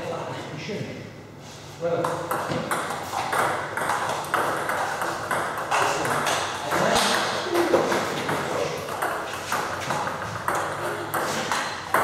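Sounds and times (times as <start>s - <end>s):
table tennis ball hits: 2.0s - 12.0s.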